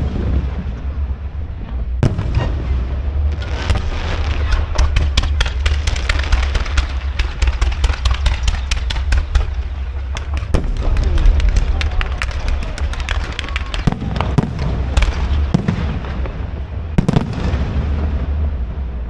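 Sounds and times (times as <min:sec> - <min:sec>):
fireworks cracking and popping: 0:00.0 - 0:18.8
low rumble: 0:00.0 - 0:19.0.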